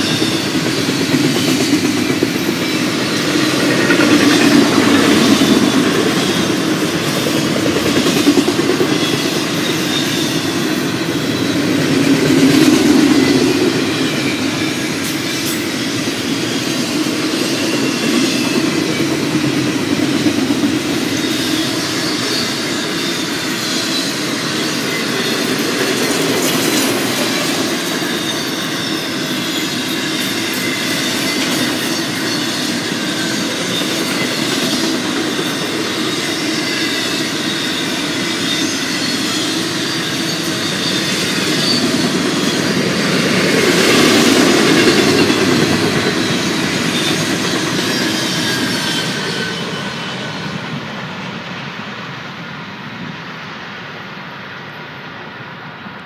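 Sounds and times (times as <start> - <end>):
high-pitched wheel squeal: 0.0 - 50.7
train wheels rumbling on rails: 0.0 - 56.0.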